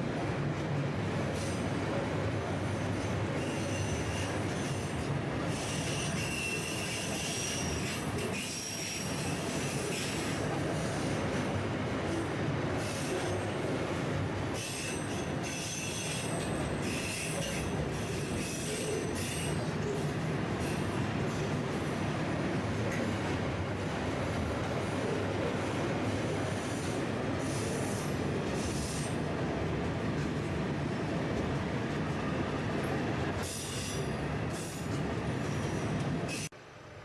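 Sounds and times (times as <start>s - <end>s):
freight train rumbling: 0.0s - 37.0s
train wheels squealing on rails: 1.2s - 29.4s, 32.1s - 36.5s.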